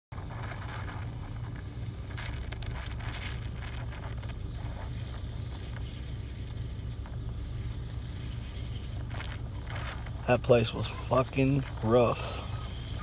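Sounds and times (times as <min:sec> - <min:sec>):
vehicle engine running: 0:00.1 - 0:13.0
faint high-pitched whine: 0:00.2 - 0:13.0.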